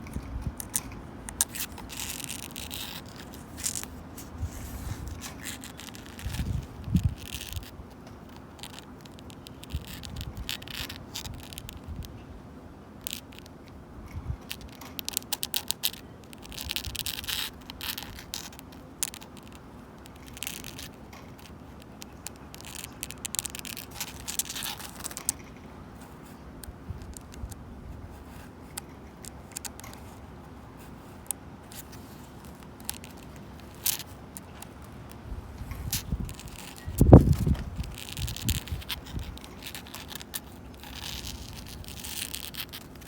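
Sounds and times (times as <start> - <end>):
low rumble of wind: 0.0 - 43.0.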